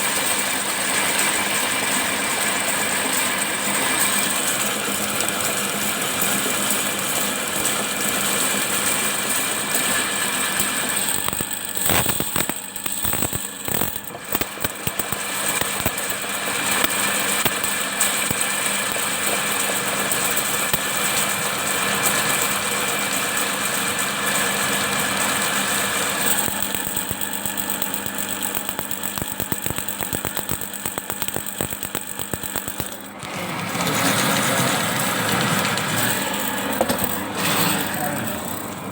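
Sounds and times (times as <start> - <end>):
drain-cleaning machine motor whine: 0.0 - 38.9.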